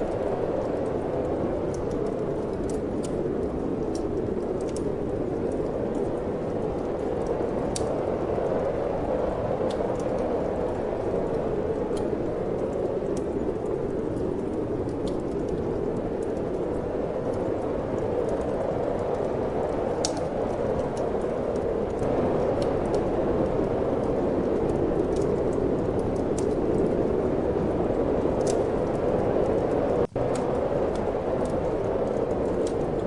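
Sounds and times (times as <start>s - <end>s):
rushing wind: 0.0s - 33.0s
wood fire crackling: 0.0s - 33.0s.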